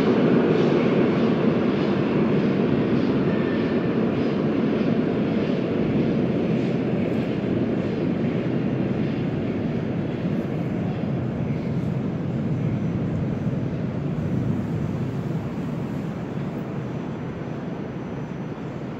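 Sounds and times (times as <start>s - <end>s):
metro train rumbling in tunnel: 0.0s - 18.9s.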